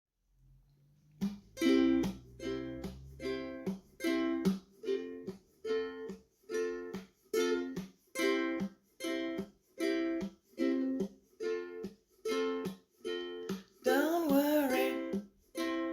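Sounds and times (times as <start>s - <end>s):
ukulele strummed chords: 1.2s - 15.9s.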